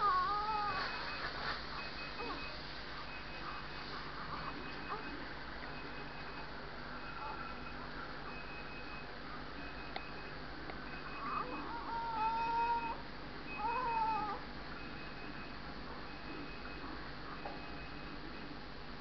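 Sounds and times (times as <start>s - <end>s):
faint electronic beep: 0.6s - 18.6s.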